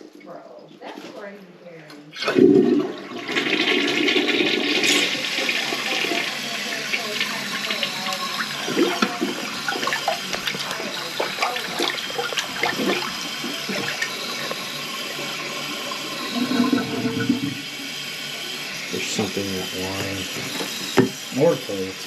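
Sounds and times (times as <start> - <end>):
toilet flushing and gurgling: 2.1 - 22.0.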